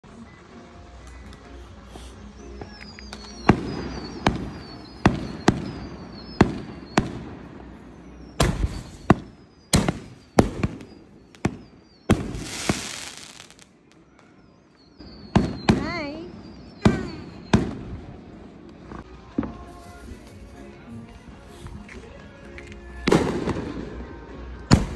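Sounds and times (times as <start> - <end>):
fireworks hissing and crackling: 0.0 - 14.3, 15.0 - 24.9
fireworks whistling: 0.1 - 24.9
fireworks banging: 0.8 - 14.3, 15.0 - 24.9.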